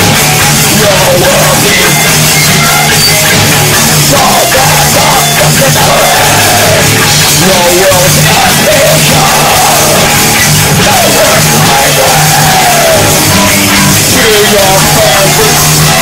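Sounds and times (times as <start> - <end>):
punk metal band playing: 0.0 - 16.0
singer yelling into microphone: 0.6 - 3.4, 4.0 - 16.0.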